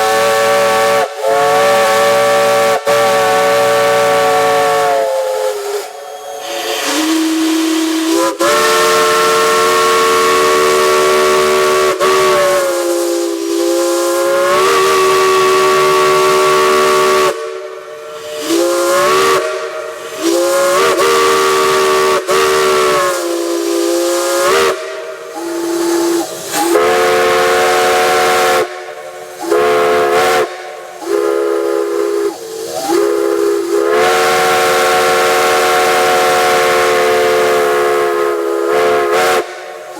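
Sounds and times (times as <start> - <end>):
steam hissing: 0.0 - 39.9
steam whistle blasts: 0.0 - 39.9.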